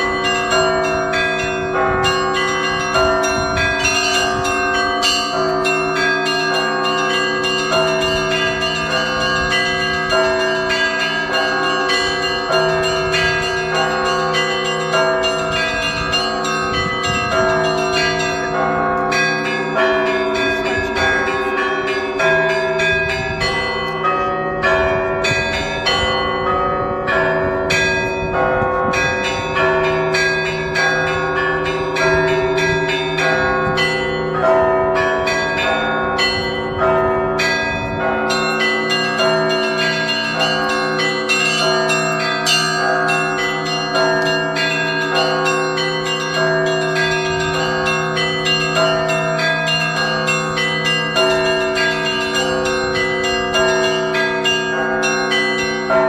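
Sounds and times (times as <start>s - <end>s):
large bells ringing: 0.0s - 56.0s.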